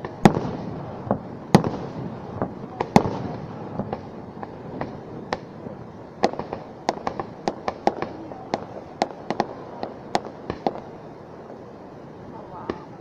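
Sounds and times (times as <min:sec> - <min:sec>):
fireworks bursting with sharp bangs: 0:00.0 - 0:13.0.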